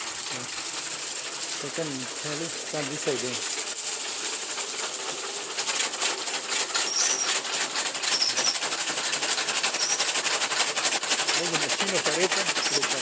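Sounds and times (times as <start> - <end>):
chaff cutter blades clattering: 0.0 - 13.0.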